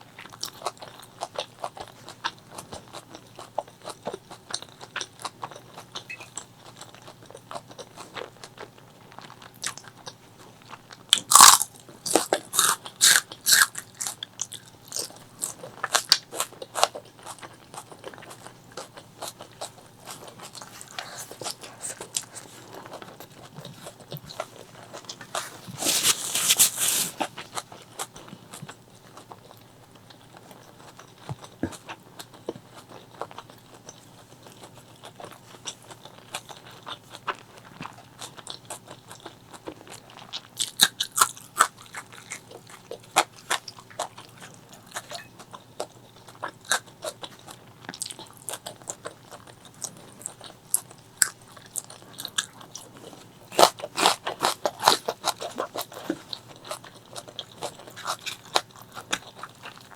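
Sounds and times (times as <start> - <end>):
crunching while eating: 0.0 - 59.9
person chewing food: 0.1 - 59.9.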